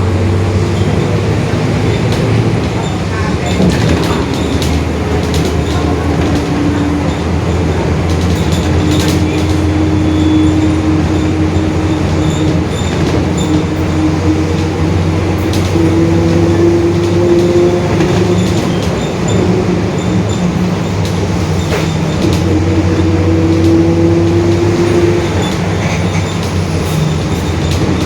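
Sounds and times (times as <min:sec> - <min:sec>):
diesel bus engine: 0:00.0 - 0:28.0.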